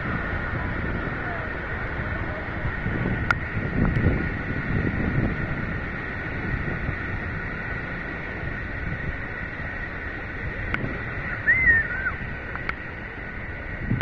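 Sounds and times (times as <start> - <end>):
waterfall rushing: 0.0 - 13.9
wind buffeting microphone: 0.0 - 14.0.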